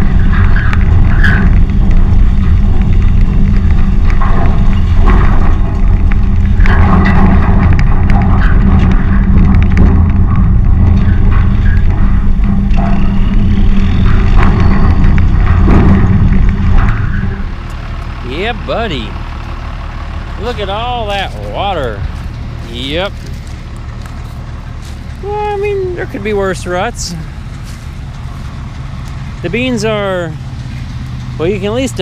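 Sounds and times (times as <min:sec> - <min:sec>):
combine engine rumbling: 0:00.0 - 0:32.0
loose sheet metal rattling: 0:00.0 - 0:32.0.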